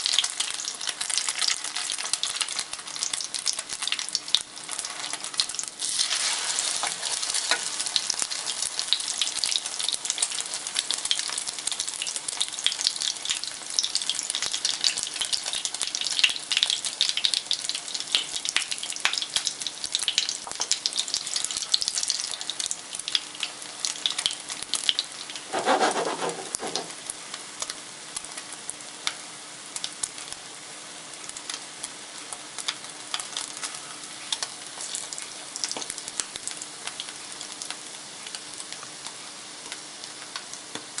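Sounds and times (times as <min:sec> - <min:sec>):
bread sizzling in oil: 0:00.0 - 0:41.0.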